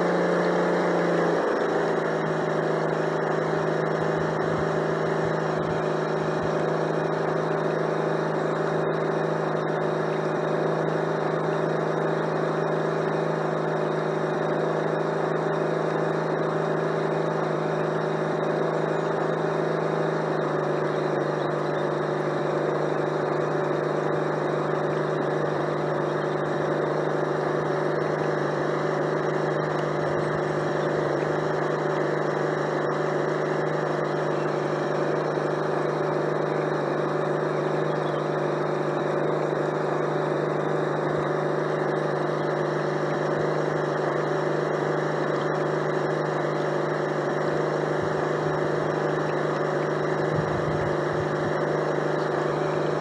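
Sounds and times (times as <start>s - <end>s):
model boat engine hum: 0.0s - 53.0s.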